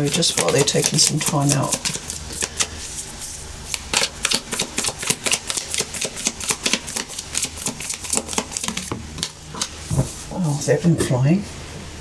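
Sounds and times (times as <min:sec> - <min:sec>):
cards being shuffled: 0:00.0 - 0:10.2.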